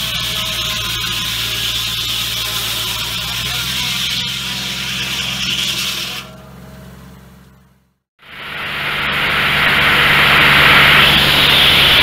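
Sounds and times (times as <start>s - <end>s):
saw blade cutting log: 0.0s - 7.0s, 8.4s - 12.0s
saw blade low hum: 0.0s - 12.0s.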